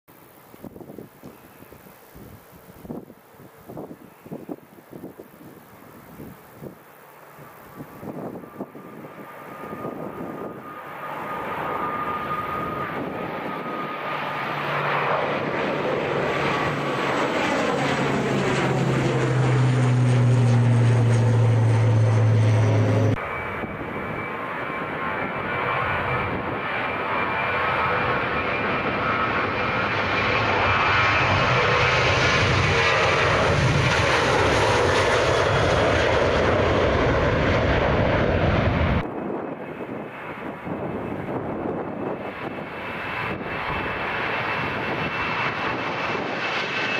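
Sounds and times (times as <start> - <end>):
jet engine rumble with whine: 0.1 - 46.9
propeller plane drone: 0.1 - 46.9.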